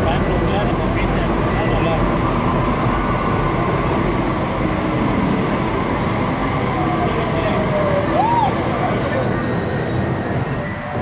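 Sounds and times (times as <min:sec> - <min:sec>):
city background noise: 0:00.0 - 0:11.0
low rumble: 0:00.0 - 0:11.0.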